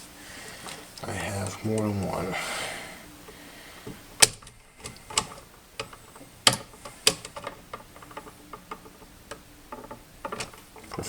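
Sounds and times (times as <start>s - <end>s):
sharp clicks and ticks on wiring: 0.6s - 2.3s, 3.2s - 11.0s.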